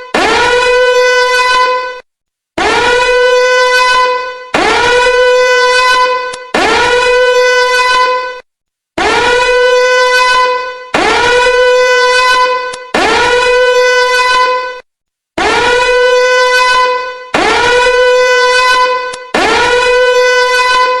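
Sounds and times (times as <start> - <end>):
harsh swooping alarm horn: 0.0 - 2.0, 2.6 - 8.4, 9.0 - 14.8, 15.4 - 21.0.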